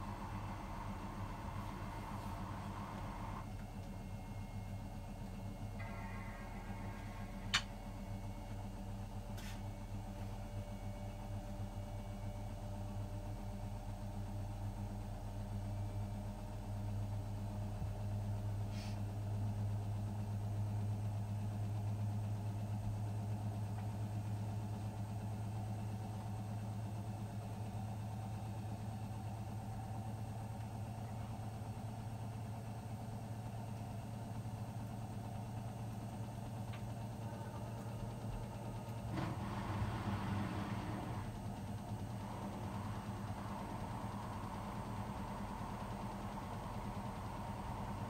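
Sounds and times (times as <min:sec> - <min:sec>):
washing machine spinning: 0:00.0 - 0:18.5, 0:19.3 - 0:48.0.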